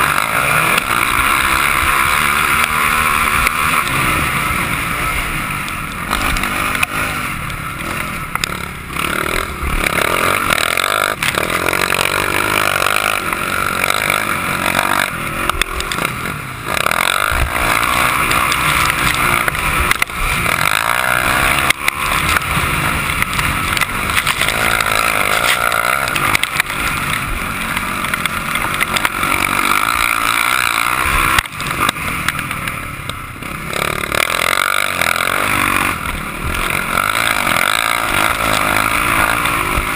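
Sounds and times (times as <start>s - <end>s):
motocross motorcycle engine revving: 0.0s - 39.9s.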